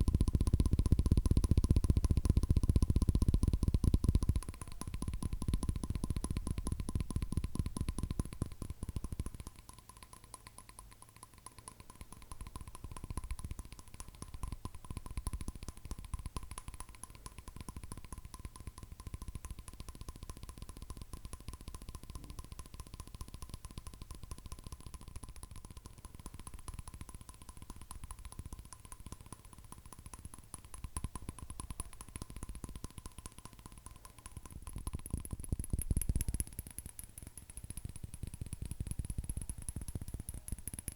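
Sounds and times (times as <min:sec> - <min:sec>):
rapid fingernail tapping: 0:00.0 - 0:40.9.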